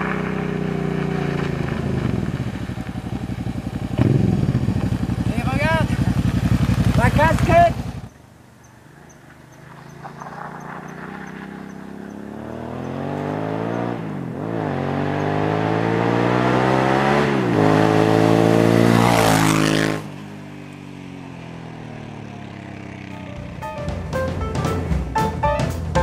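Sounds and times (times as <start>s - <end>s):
buggy engine accelerating: 0.0s - 26.0s.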